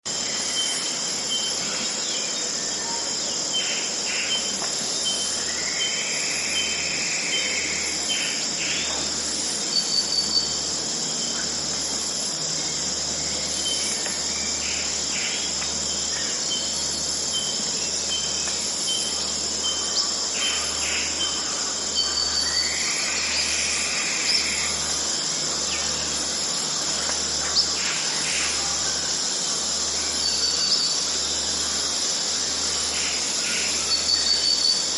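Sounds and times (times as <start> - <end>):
insects buzzing: 0.0 - 34.9.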